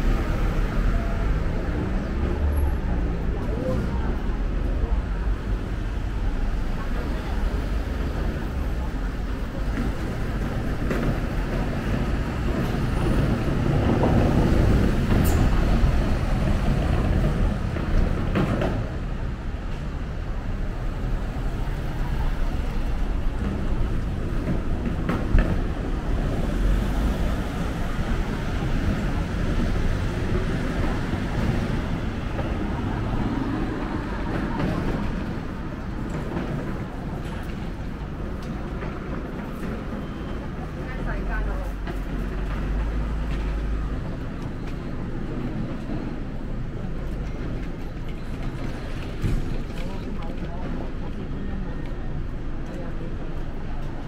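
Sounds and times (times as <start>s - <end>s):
passing cars and lorry: 0.0s - 54.0s.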